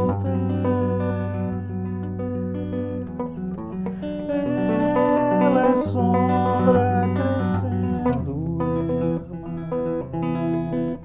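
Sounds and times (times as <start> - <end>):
solo guitar playing: 0.0 - 11.0.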